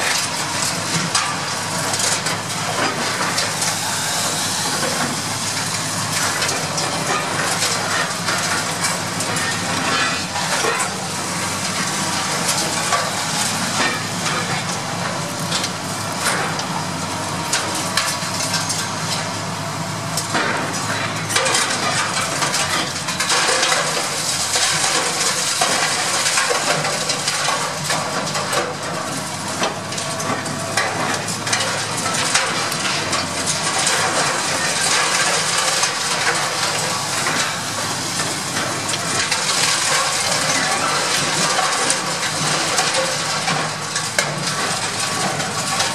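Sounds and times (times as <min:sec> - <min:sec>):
excavator engine drone: 0:00.0 - 0:45.9
concrete breaking and rubble falling: 0:01.1 - 0:14.8, 0:20.3 - 0:45.9.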